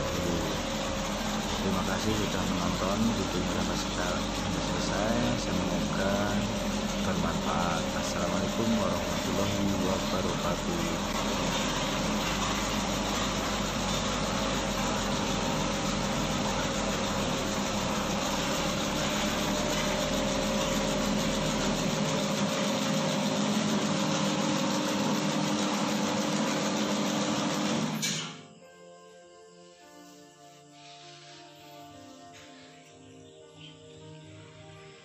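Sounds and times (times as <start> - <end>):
dough mixer motor hum: 0.0 - 28.2.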